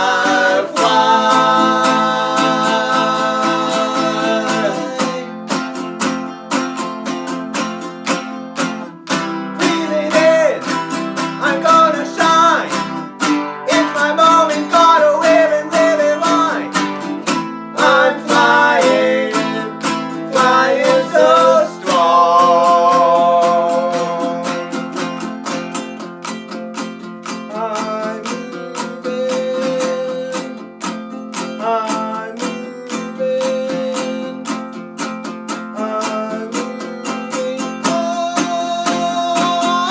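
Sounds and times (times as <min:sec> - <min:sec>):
strummed acoustic guitar: 0:00.0 - 0:39.9.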